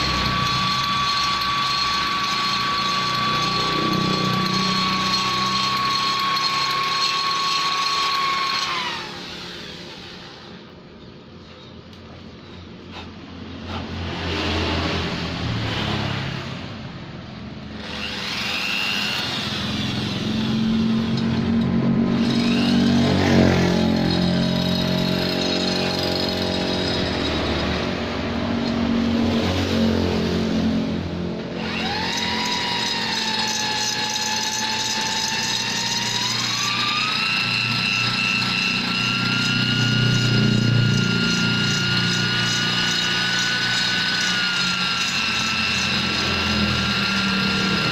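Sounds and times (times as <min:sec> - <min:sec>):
rotary grinder whining on metal: 0:00.0 - 0:16.6, 0:17.6 - 0:47.9.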